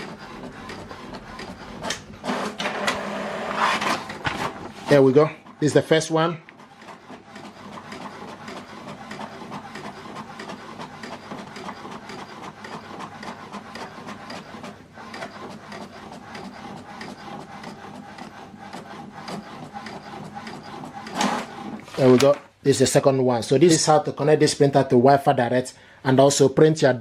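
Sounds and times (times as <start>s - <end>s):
inkjet printer printing: 0.0s - 22.4s.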